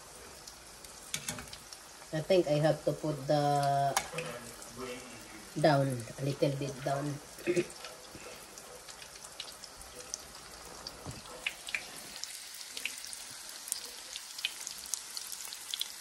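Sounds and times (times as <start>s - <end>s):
dumplings sizzling in oil: 0.0s - 16.0s
oil crackling and popping: 0.0s - 16.0s.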